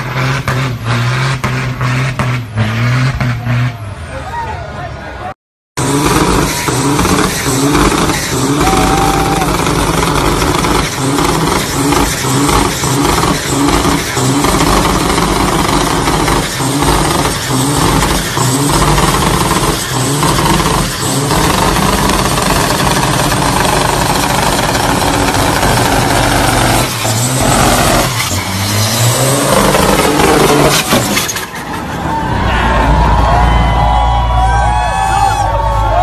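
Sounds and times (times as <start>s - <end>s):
diesel truck engine revving: 0.0s - 4.4s, 5.8s - 36.0s.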